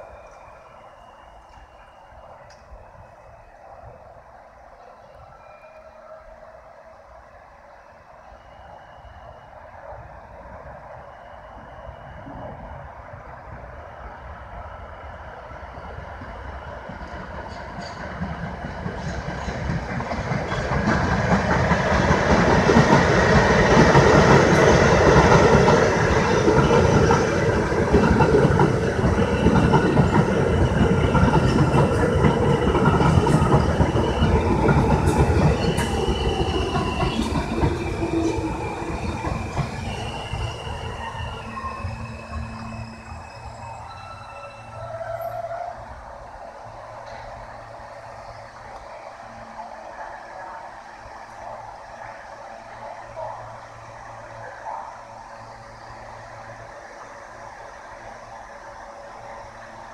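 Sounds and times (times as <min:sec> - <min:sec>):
subway train wheels clattering: 0:00.0 - 0:59.9
train wheels squealing: 0:00.0 - 0:59.9.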